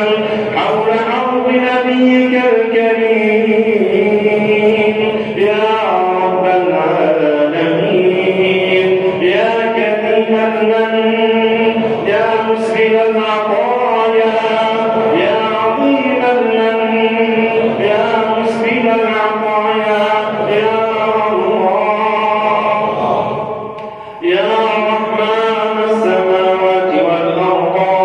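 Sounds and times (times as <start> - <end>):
melodic vocal chanting: 0.0 - 28.0.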